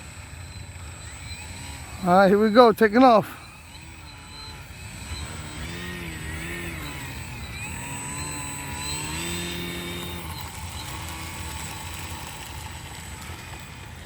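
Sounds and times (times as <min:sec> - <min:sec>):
model plane motor whining: 0:00.0 - 0:14.0.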